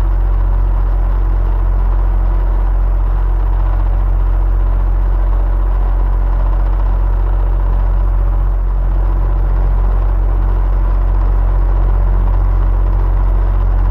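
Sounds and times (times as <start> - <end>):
electric fan running: 0.0 - 13.9.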